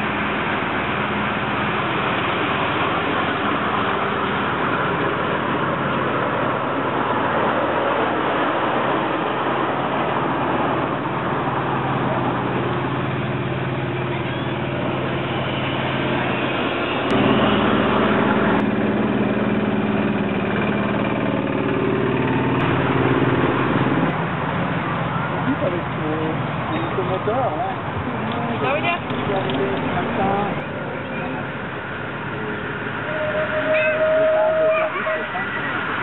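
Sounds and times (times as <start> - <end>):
miniature railway locomotive running: 0.0 - 36.0.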